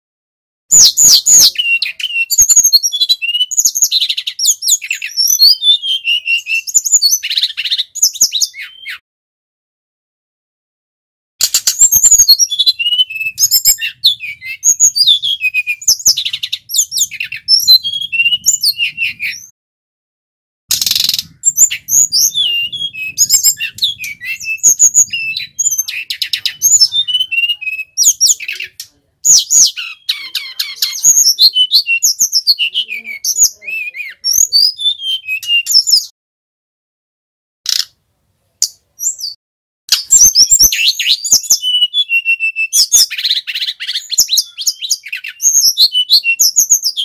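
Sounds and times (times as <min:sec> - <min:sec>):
bird singing whistled song: 0:00.7 - 0:09.0, 0:11.4 - 0:19.5, 0:20.7 - 0:36.1, 0:38.6 - 0:47.0.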